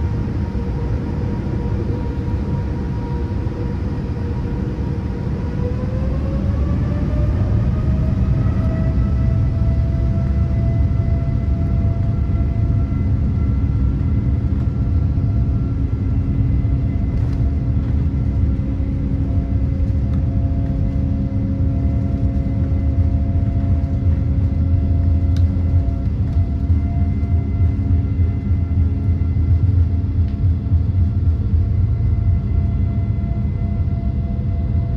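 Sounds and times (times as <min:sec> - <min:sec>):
engine and airflow rumble: 0:00.0 - 0:34.9.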